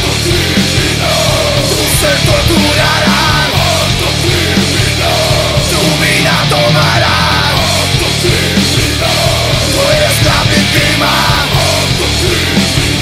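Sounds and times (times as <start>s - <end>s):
distorted electric guitars: 0.0s - 13.0s
drum kit: 0.0s - 13.0s
electric bass: 0.0s - 13.0s.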